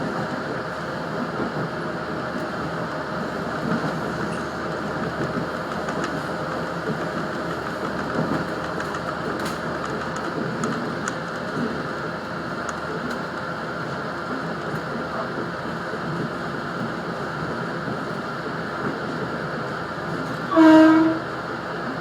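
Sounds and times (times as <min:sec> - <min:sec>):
railcar engine and wheels drone: 0:00.0 - 0:22.0.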